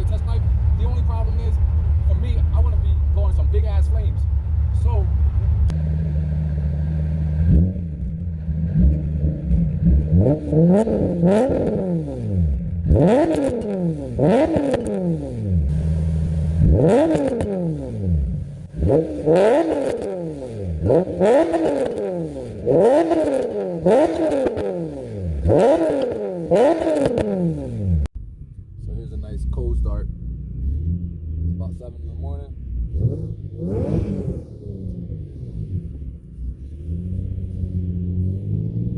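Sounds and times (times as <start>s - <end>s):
car engine revving in blips: 5.2s - 38.9s.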